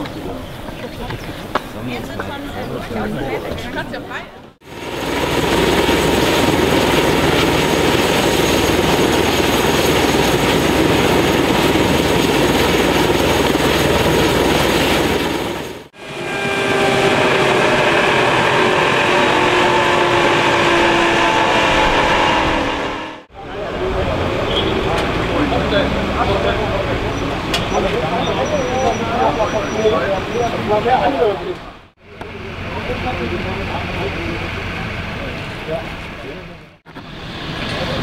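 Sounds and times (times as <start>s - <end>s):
helicopter engines and rotor: 4.6s - 38.0s.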